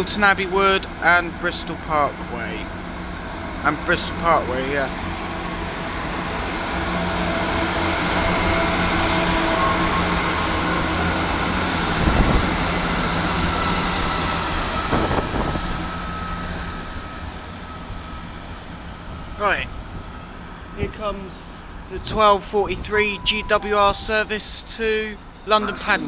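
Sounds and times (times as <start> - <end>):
diesel train engine hum: 0.0 - 26.0
rolling rail noise: 0.0 - 26.0.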